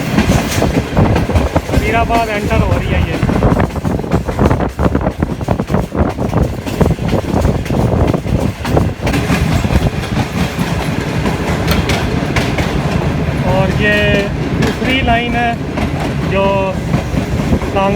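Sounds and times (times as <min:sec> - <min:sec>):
train wheels clattering on rails: 0:00.0 - 0:17.9.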